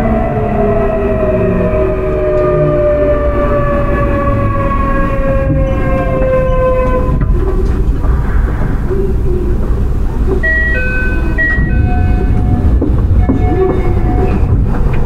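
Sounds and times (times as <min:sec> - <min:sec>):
inverter whine: 0:00.0 - 0:15.0
train rumbling on rails: 0:00.0 - 0:15.0.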